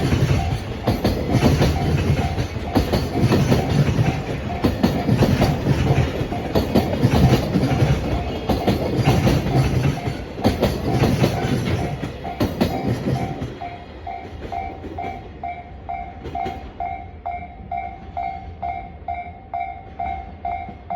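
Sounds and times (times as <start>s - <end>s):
freight train clattering over rail joints: 0.0s - 18.3s
crossing warning bell ringing: 0.0s - 20.9s.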